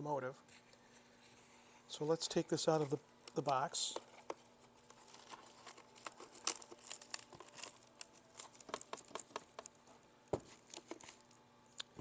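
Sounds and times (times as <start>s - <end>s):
packaging rustling and crinkling: 2.0s - 12.0s.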